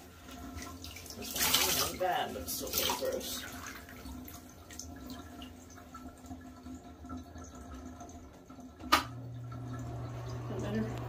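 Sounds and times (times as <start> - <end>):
water dripping and trickling: 0.0 - 11.0.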